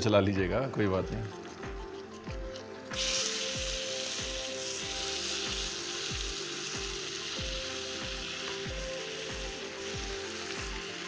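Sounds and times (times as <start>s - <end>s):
background music beat: 0.0s - 11.0s
meat sizzling in hot oil: 1.8s - 11.0s.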